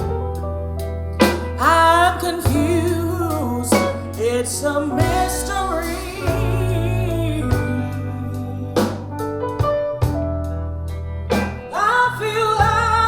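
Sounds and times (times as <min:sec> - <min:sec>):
pop soul song over loudspeakers: 0:00.0 - 0:10.2, 0:11.3 - 0:13.0
bass line: 0:00.0 - 0:13.0
keyboard chords: 0:00.0 - 0:13.0.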